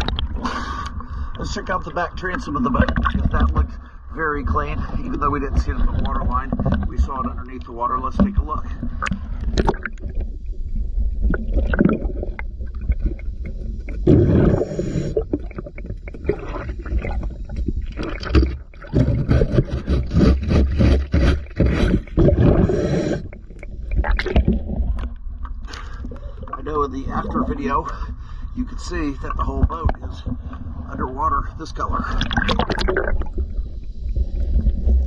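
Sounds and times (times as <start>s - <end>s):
diver's exhaled bubbles gurgling: 0.0s - 35.0s
underwater water rumble: 0.0s - 35.0s.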